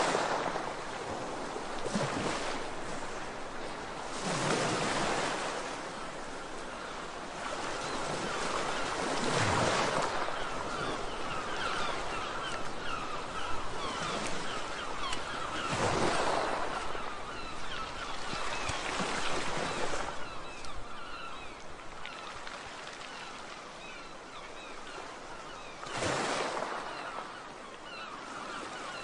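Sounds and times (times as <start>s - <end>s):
sea waves washing onto shore: 0.0s - 28.2s.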